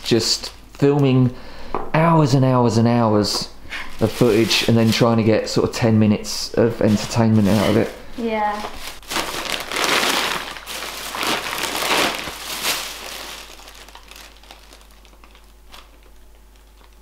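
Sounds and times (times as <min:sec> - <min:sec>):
plastic bags rustling: 0:00.0 - 0:01.3, 0:03.8 - 0:17.0.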